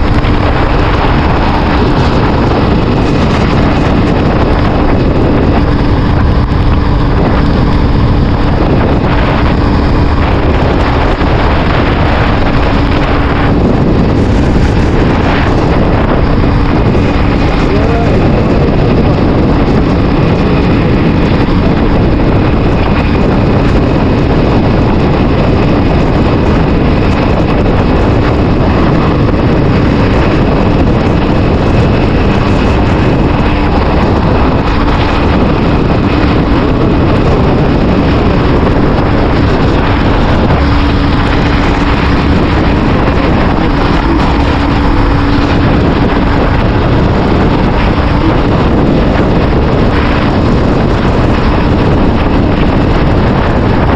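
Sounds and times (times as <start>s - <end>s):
motorcycle engine running: 0.0s - 53.9s
wind and rain noise on microphone: 0.0s - 53.9s.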